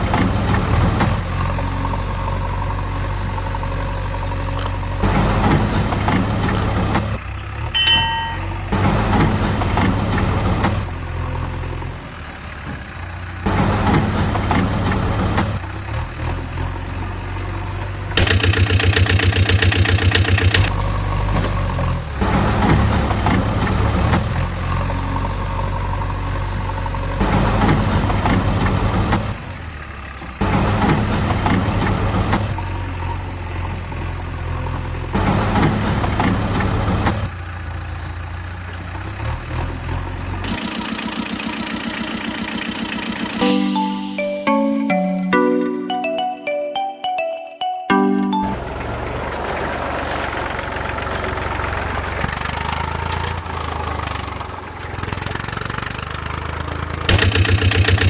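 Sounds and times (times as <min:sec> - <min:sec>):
vehicle engine: 0:00.0 - 0:07.8, 0:08.5 - 0:43.4, 0:48.6 - 0:58.0.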